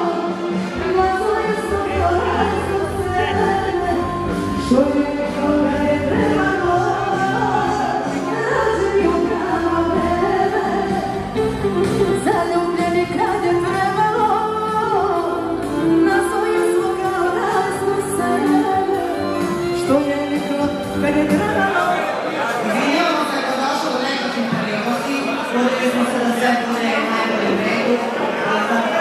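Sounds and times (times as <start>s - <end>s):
women singing into microphones: 0.0s - 23.4s.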